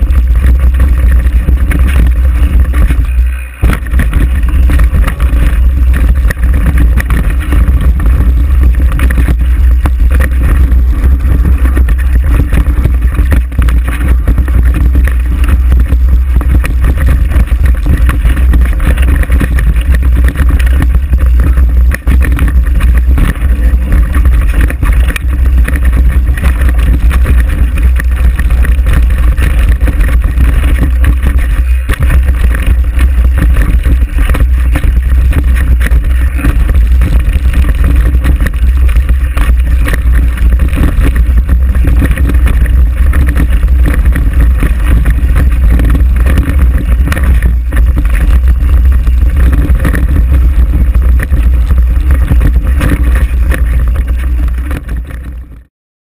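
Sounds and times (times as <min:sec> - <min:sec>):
bike tyres on rough dirt trail: 0:00.0 - 0:55.7
wind buffeting microphone: 0:00.0 - 0:55.7.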